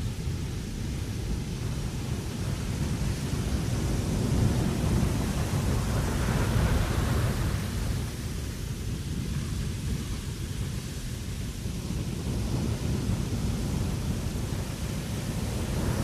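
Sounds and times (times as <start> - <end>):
wind buffeting with hiss: 0.0 - 16.0.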